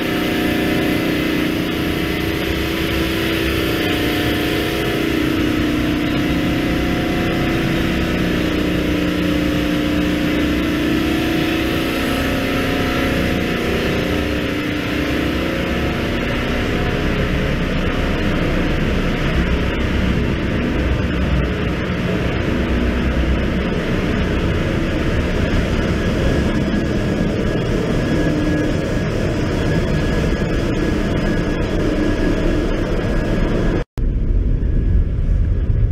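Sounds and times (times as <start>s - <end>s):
engine room machinery drone: 0.0s - 35.9s
pitched compressor hum: 0.0s - 35.9s.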